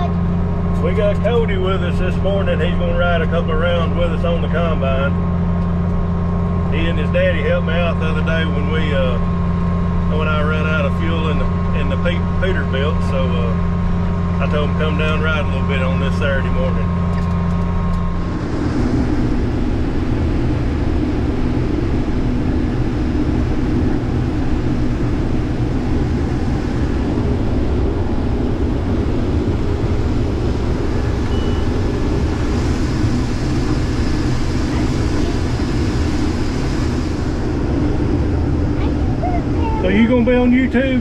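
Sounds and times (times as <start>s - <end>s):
combine harvester running: 0.0s - 41.0s.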